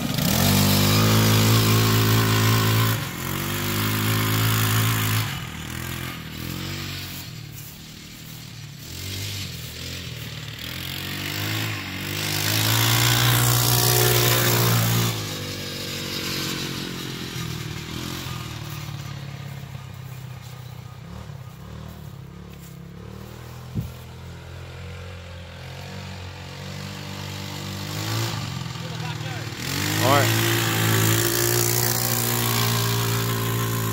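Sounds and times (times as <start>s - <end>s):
atv engine revving: 0.0s - 33.9s.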